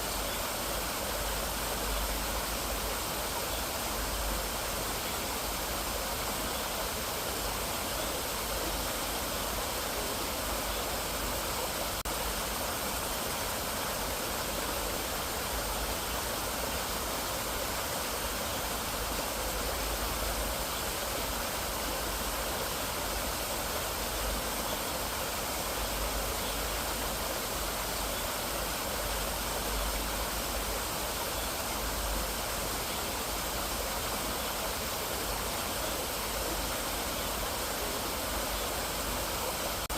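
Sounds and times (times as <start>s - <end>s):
stream water flowing over rocks: 0.0s - 39.9s.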